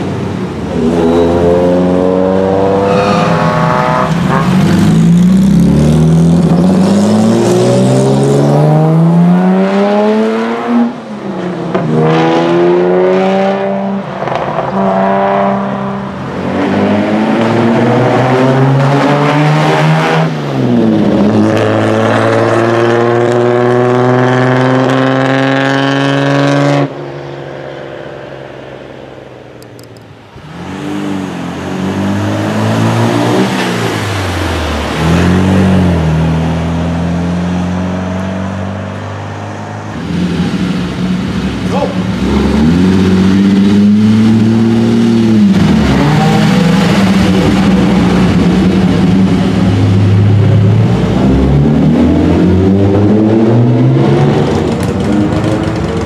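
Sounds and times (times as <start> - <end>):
racing car engines accelerating: 0.0 - 28.9, 30.4 - 56.0.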